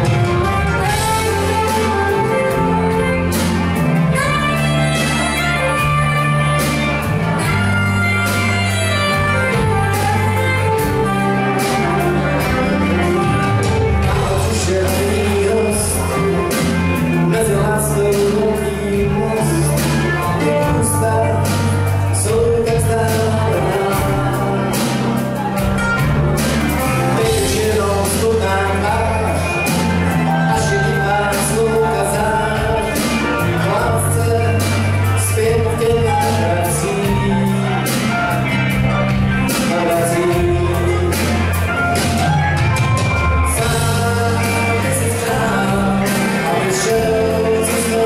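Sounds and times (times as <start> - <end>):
live rock band playing: 0.0 - 48.0.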